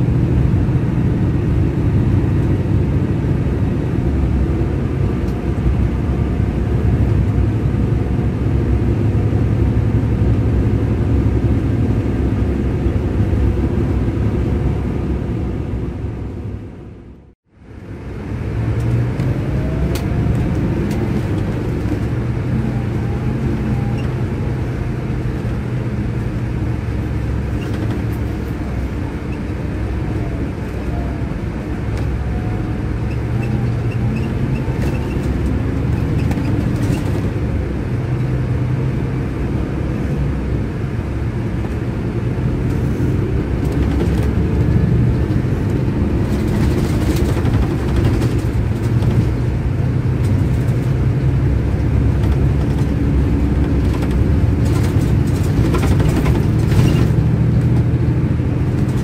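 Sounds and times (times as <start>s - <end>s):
diesel coach engine running: 0.0s - 59.0s
road noise: 0.0s - 59.0s.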